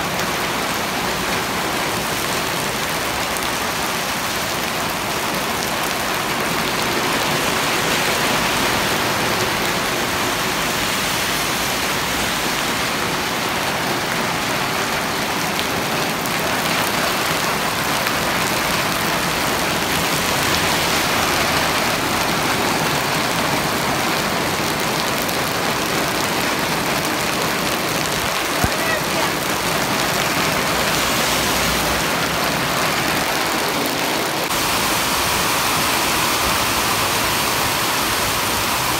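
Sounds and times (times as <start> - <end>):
rain falling on wet pavement: 0.0 - 38.9.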